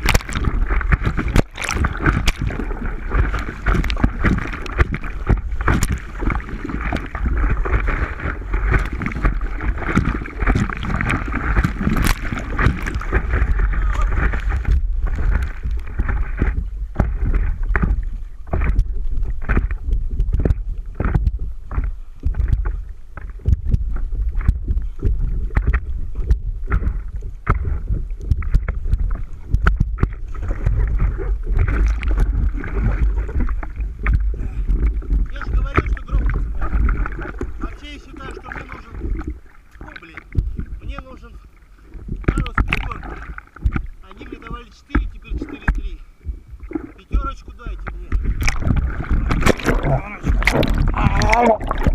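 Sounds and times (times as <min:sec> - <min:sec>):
water splashing and sloshing: 0:00.0 - 0:51.9
wind buffeting microphone: 0:00.0 - 0:51.9.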